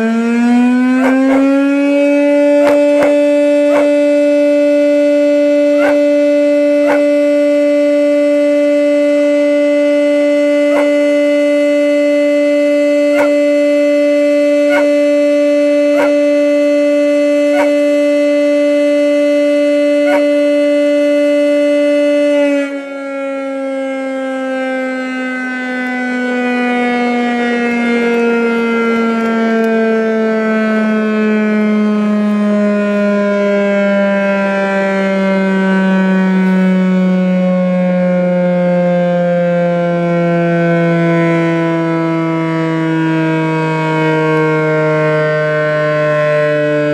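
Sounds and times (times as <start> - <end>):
warning siren winding down: 0.0 - 46.9.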